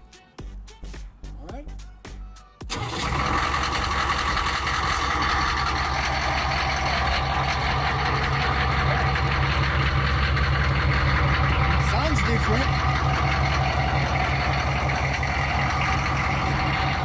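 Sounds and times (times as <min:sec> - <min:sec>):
diesel engine idling: 0:02.7 - 0:17.0.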